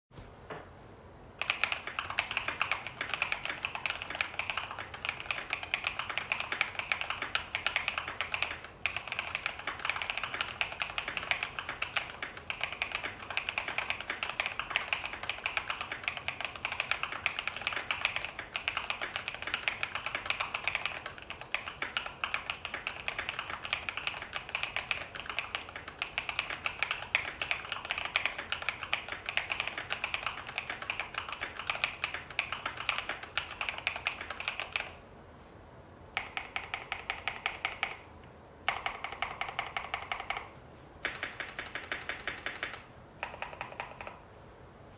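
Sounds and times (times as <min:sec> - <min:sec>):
fast mechanical keyboard typing: 0:01.4 - 0:35.0, 0:36.2 - 0:38.1, 0:38.7 - 0:44.2.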